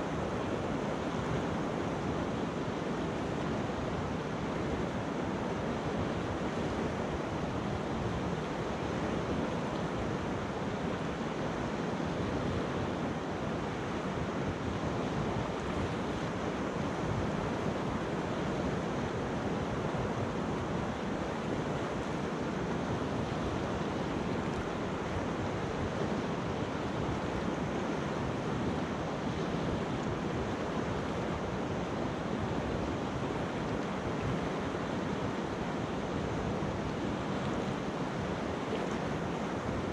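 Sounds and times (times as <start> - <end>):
river water rushing over pebbles: 0.0 - 39.9.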